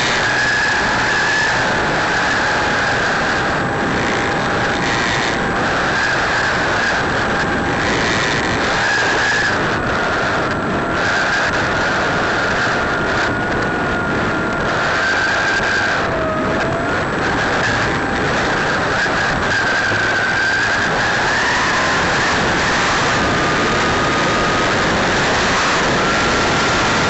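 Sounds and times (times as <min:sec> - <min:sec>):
model plane motor whining: 0:00.0 - 0:27.0
wind rushing over microphone: 0:00.0 - 0:27.0.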